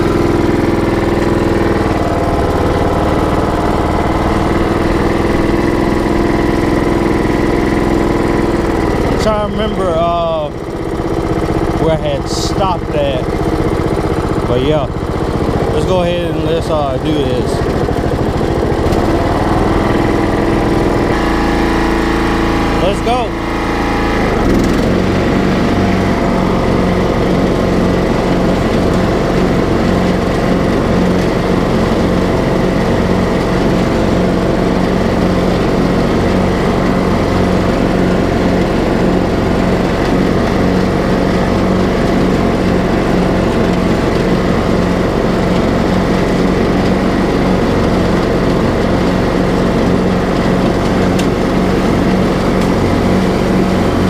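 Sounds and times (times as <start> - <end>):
riding lawn mower engine running: 0.0 - 54.0.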